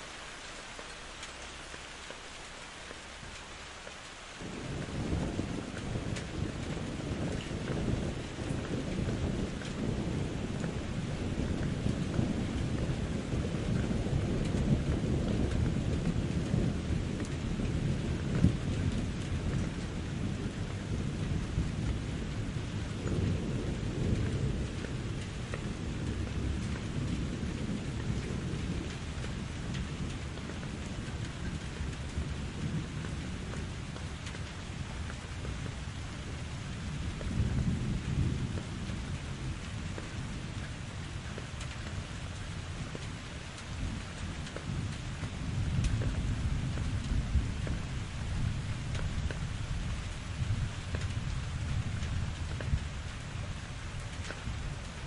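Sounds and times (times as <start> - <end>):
steady rain: 0.0 - 55.0
rolling thunder: 4.4 - 55.0.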